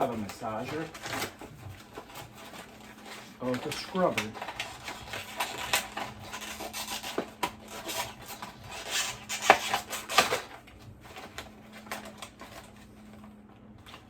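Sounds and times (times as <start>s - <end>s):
cardboard packaging rustling: 0.0s - 14.0s.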